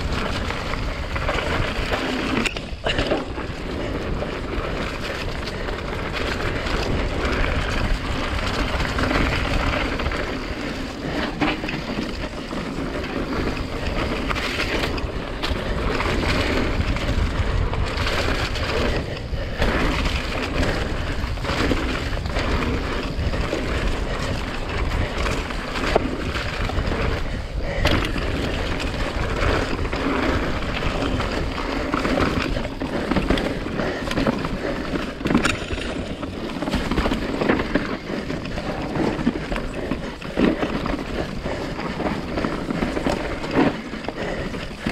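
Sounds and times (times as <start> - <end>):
bike clattering over bumps: 0.0 - 44.9
tyres rumbling on dirt: 0.0 - 44.9
wind buffeting microphone: 0.0 - 44.9.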